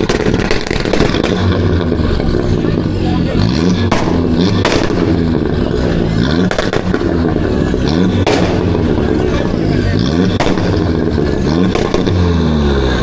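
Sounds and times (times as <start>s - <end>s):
sharp cracks: 0.0s - 2.8s, 3.6s - 9.5s, 10.2s - 12.4s
car engines revving: 0.0s - 13.0s.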